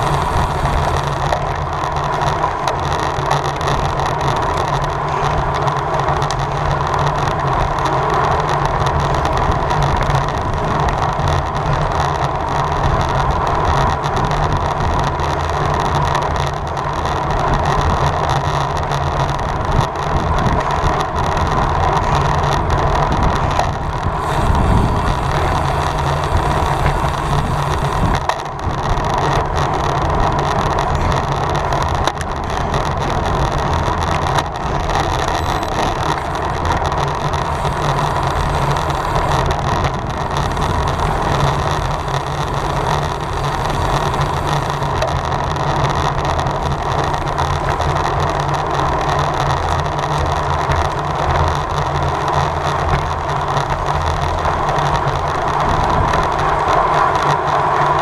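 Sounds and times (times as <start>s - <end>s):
wind and tyre noise from a bike: 0.0s - 58.0s.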